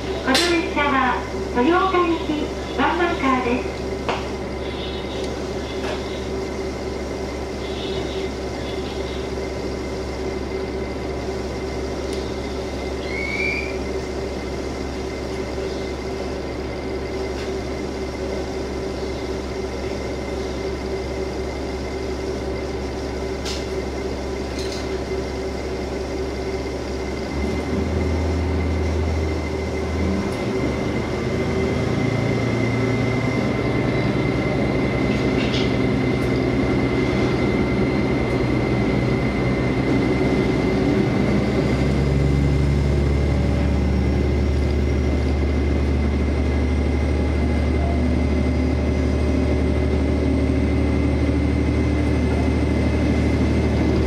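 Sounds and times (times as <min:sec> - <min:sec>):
diesel railcar engine idling: 0:00.0 - 0:54.0.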